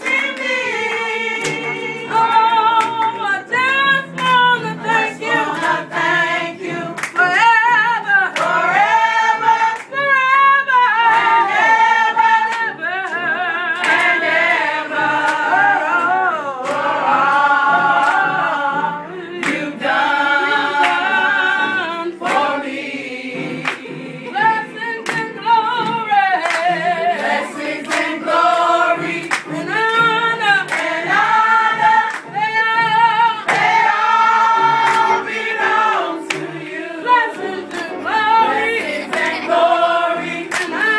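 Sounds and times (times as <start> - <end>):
hand clapping: 0.0 - 21.4, 22.2 - 40.9
group singing gospel a cappella: 0.0 - 40.9.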